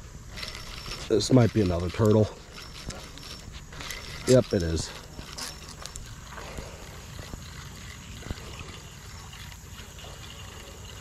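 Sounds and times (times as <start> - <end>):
fishing reel clicks: 0.3 - 11.0.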